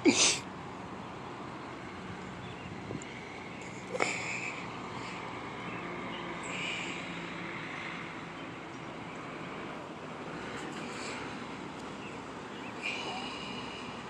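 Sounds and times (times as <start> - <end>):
traffic hum: 0.0 - 14.0.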